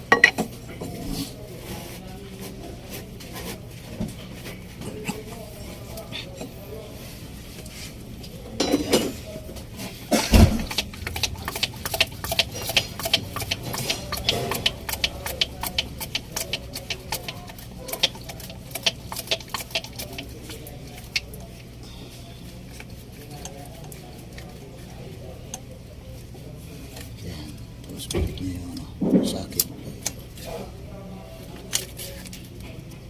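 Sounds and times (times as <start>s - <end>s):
low steady hum: 2.1s - 33.0s.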